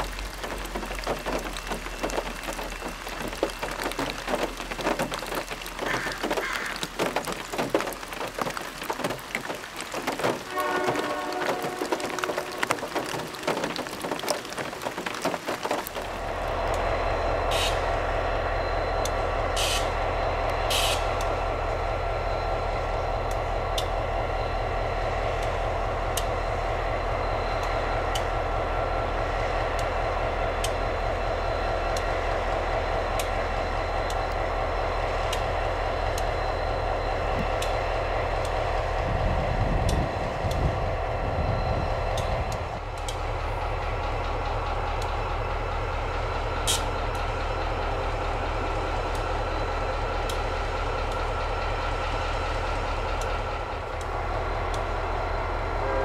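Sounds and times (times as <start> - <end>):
train engine drone: 0.0 - 56.0
wheels clicking on rails: 0.0 - 56.0.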